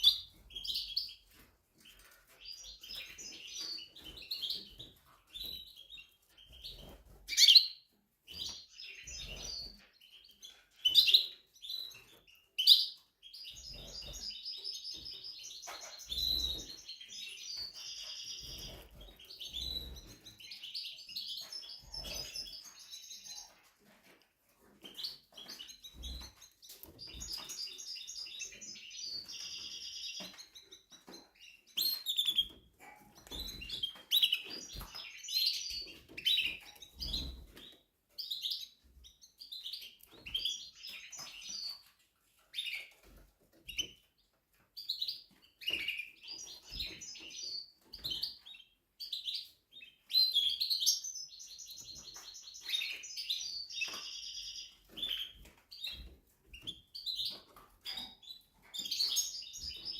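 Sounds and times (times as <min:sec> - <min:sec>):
canary trilling and chirping: 0:00.0 - 0:59.9.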